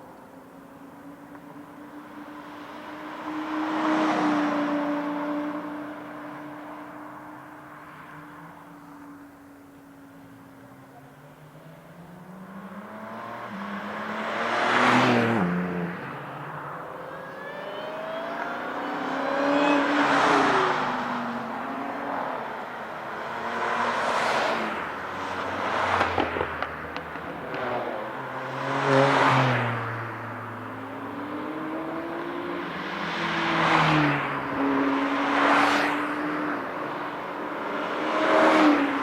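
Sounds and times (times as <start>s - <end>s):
race cars passing at speed: 0.0s - 39.0s.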